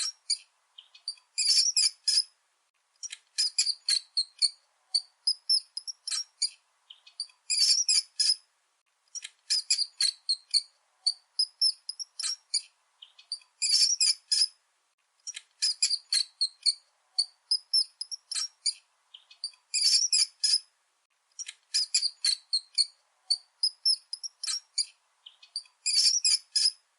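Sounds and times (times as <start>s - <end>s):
mice squeaking: 0.0s - 2.3s, 3.0s - 8.4s, 9.2s - 14.5s, 15.3s - 20.7s, 21.4s - 26.8s.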